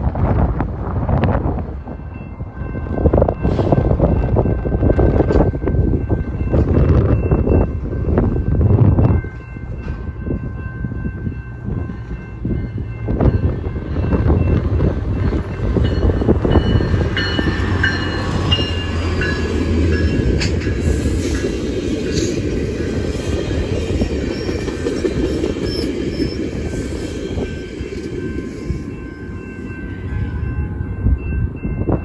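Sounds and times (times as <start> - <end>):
diesel locomotive engine hum: 0.0 - 32.0.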